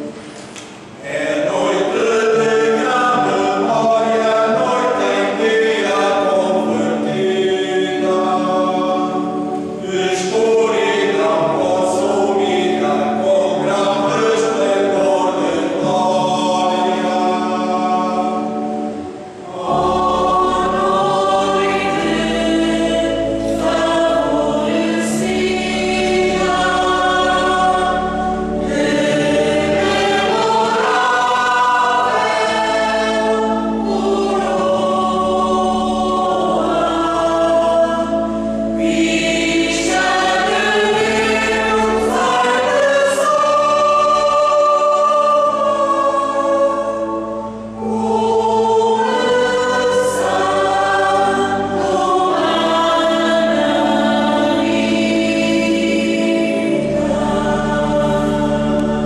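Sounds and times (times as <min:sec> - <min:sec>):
mixed choir singing: 0:00.0 - 0:59.0
organ accompaniment: 0:00.0 - 0:59.0.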